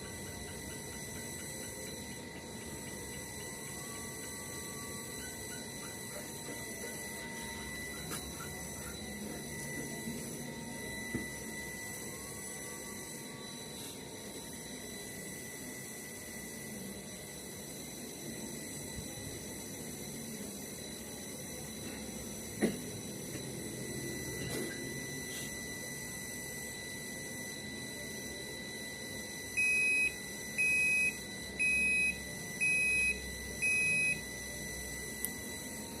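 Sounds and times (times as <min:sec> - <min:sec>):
washing machine buzzer beeping: 0:00.0 - 0:36.0.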